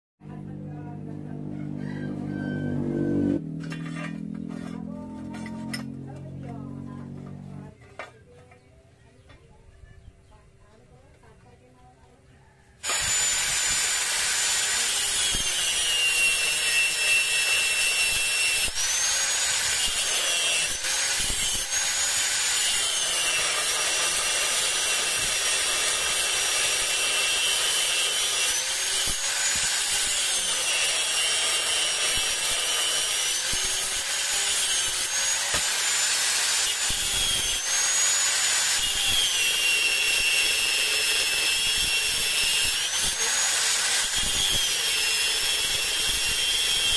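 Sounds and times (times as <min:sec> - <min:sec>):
angle grinder cutting steel: 0:03.1 - 0:07.8, 0:12.8 - 0:46.9.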